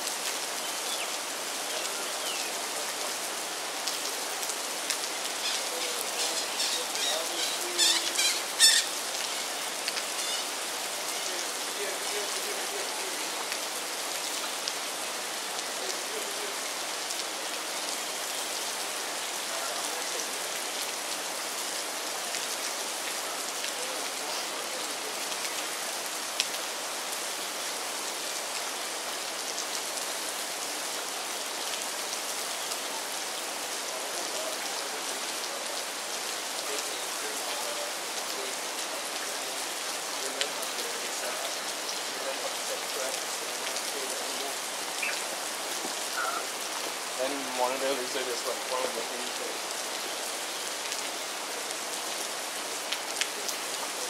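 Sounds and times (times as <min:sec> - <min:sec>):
rain falling on a river: 0:00.0 - 0:54.0.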